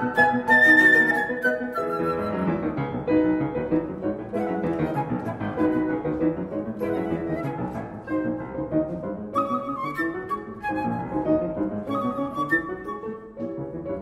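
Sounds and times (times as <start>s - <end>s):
classical instrumental music: 0.0s - 14.0s.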